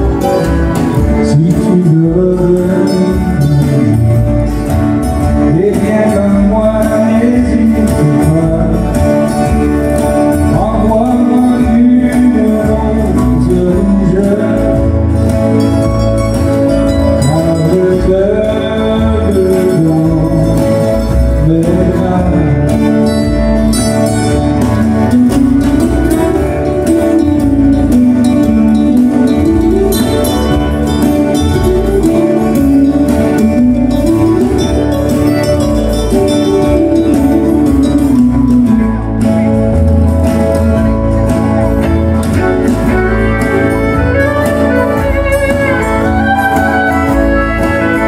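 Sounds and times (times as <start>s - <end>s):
acoustic guitars playing country music: 0.0s - 48.0s.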